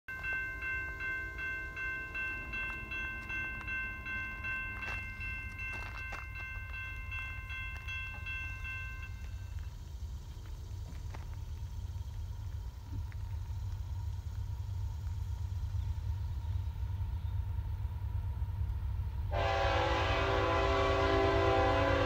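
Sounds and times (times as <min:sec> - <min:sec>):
low rumble of freight train: 0:00.1 - 0:22.0.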